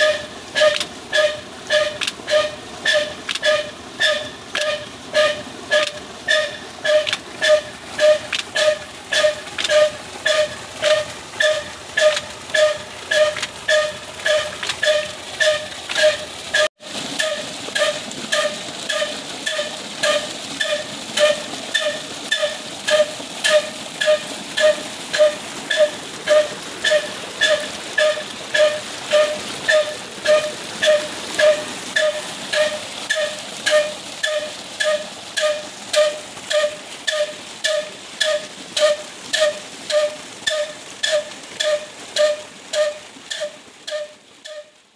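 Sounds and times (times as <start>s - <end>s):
water gushing into tank: 0.0s - 44.9s.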